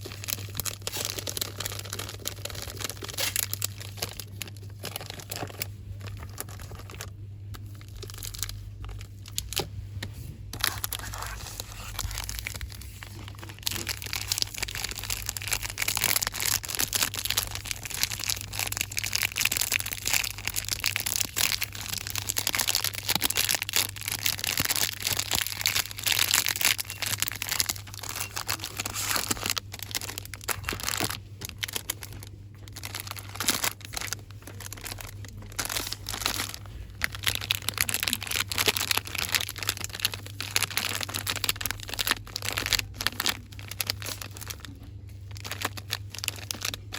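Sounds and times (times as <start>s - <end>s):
packaging crinkling and rustling: 0.0s - 46.9s.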